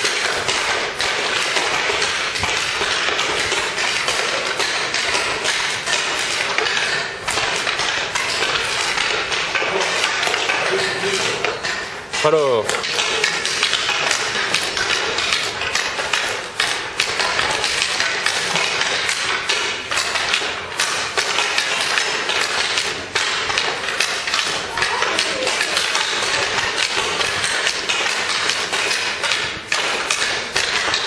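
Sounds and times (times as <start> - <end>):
sticks hitting pucks: 0.0 - 31.0.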